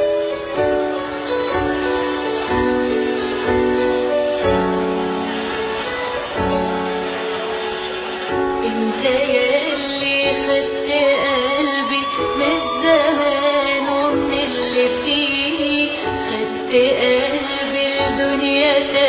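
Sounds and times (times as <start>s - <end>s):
held keyboard chords: 0.0s - 19.0s.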